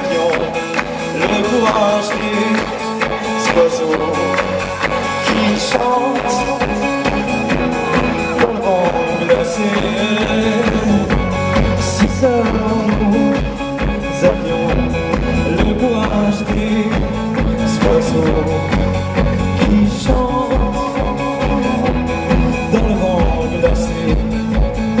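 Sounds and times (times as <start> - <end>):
drums keeping steady beat: 0.0 - 25.0
live band playing: 0.0 - 25.0.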